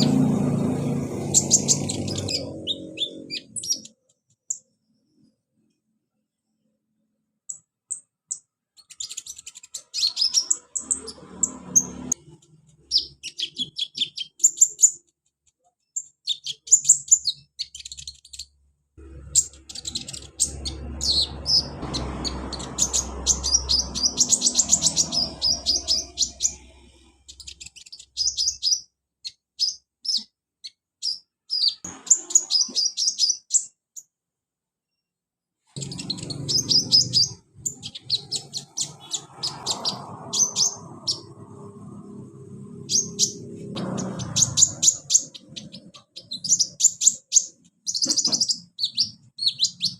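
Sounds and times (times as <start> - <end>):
sunbird chirps and twitters: 0.0 - 5.3, 7.5 - 34.2, 35.8 - 49.9.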